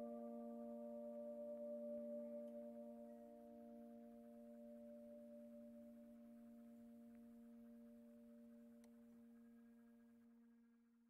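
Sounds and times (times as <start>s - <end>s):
soft ambient meditation music: 0.0s - 11.0s.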